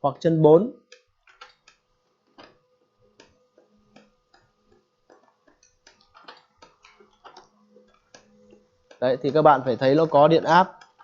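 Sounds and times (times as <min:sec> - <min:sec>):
laser printer clicking and ticking: 0:00.8 - 0:11.0.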